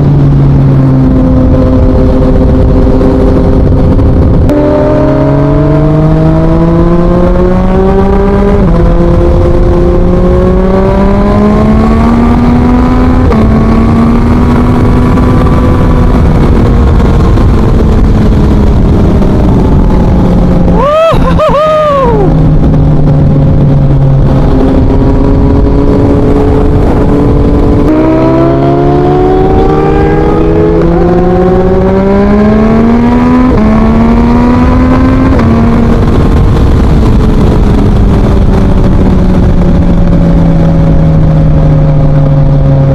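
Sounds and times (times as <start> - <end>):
motorcycle engine revving through gears: 0.0 - 20.9, 22.2 - 42.9.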